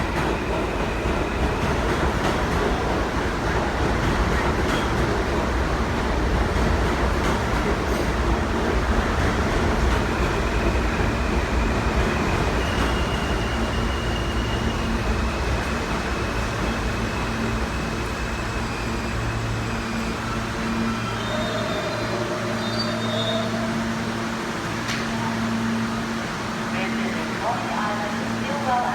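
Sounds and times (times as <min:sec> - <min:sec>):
subway train rumbling: 0:00.0 - 0:28.9.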